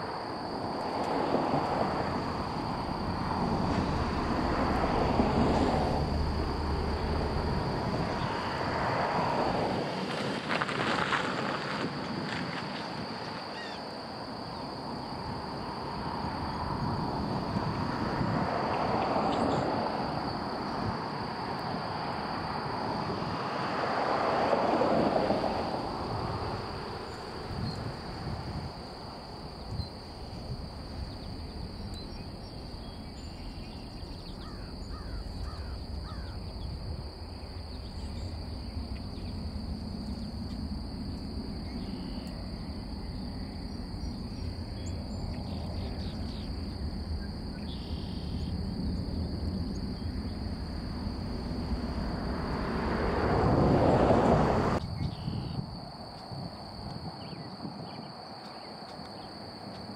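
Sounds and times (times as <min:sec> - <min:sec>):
distant jet rumble: 0:00.0 - 0:57.9.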